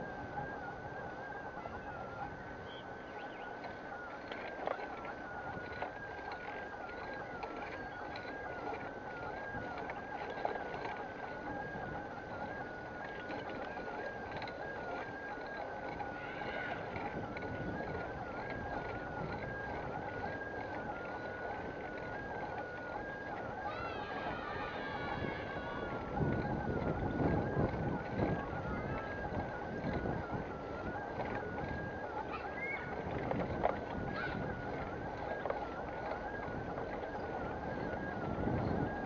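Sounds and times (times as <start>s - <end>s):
bicycle tyres rumbling on paving: 0.0s - 39.0s
thin steady whine: 0.0s - 39.0s
small rattles and clicks: 3.0s - 39.0s.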